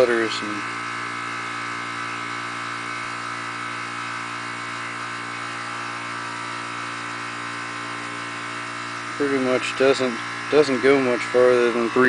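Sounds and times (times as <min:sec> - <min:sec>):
compressor electrical hum: 0:00.0 - 0:12.0.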